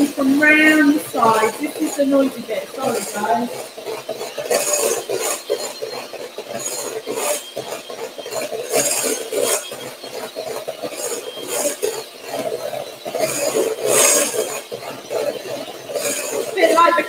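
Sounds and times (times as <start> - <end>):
beaters scraping against glass bowl: 0.0 - 17.0
electric hand mixer hum: 0.0 - 17.0.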